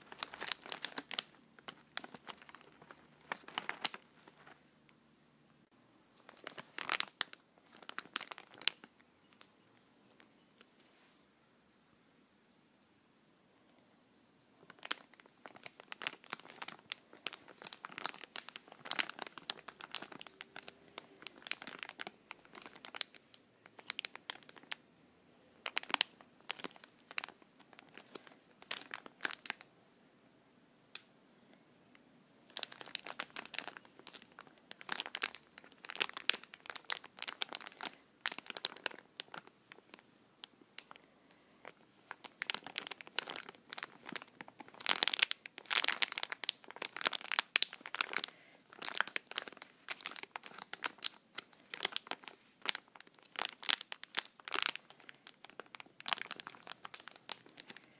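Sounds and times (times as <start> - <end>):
plastic pack crinkling: 0.0 - 4.7, 6.2 - 9.6, 14.6 - 24.8, 25.6 - 29.7, 32.5 - 57.9.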